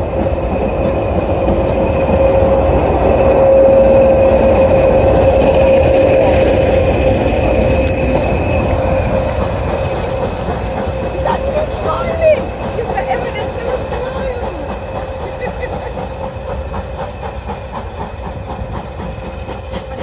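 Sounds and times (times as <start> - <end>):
train wheels rumbling on rails: 0.0 - 20.0
wheel flanges squealing: 0.0 - 20.0.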